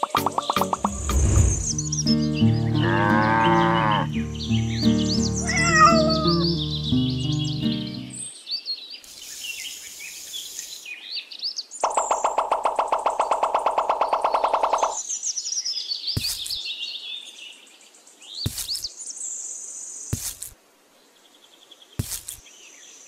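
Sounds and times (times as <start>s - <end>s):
birds chirping: 0.0s - 20.2s.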